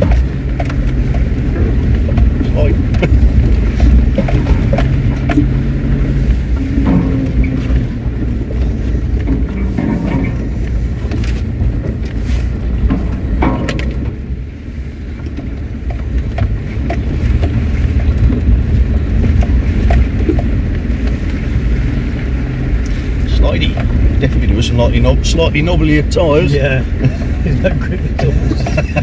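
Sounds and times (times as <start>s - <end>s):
knocks and rattles: 0.0s - 29.0s
vehicle engine running: 0.0s - 29.0s.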